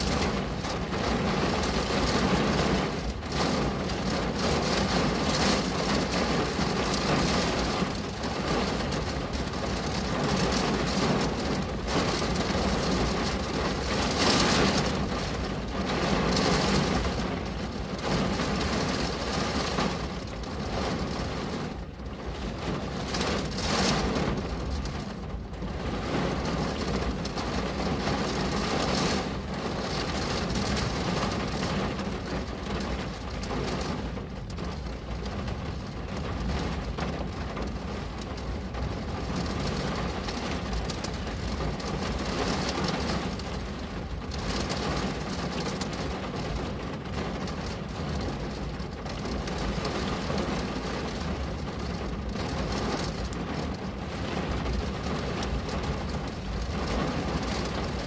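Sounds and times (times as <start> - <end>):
rain on window pane: 0.0 - 58.0.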